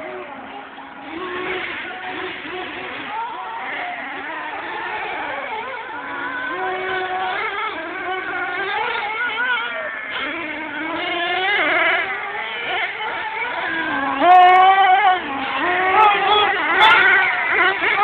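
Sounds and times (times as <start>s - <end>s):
rc car motors buzzing: 0.0s - 18.0s.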